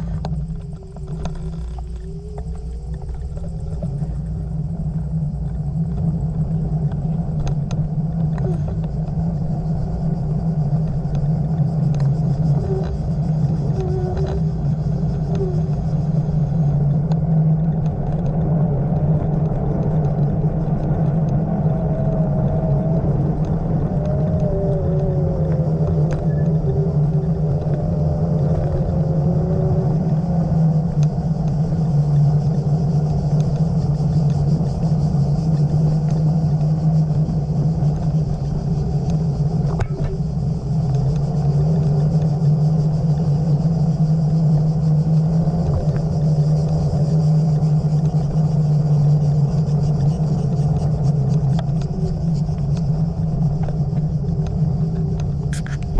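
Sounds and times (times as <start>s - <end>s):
faint wavering whine: 0.0s - 55.9s
vehicle rumble on road: 0.0s - 55.9s.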